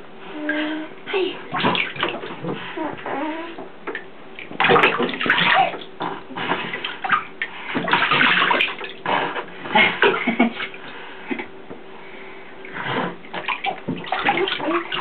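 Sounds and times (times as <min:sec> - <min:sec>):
bath water splashing: 0:01.4 - 0:11.5, 0:12.6 - 0:15.0.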